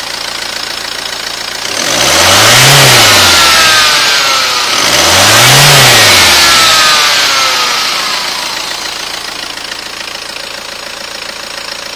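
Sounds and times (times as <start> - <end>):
diesel engine revving and idling: 0.0 - 11.9.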